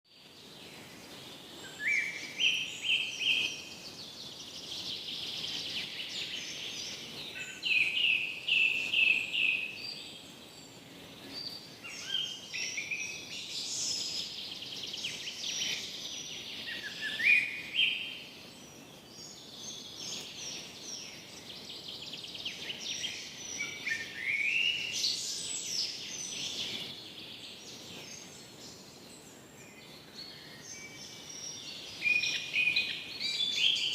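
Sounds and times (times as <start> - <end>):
faint steady breeze: 0.1 - 33.9
songbirds singing: 0.1 - 33.9.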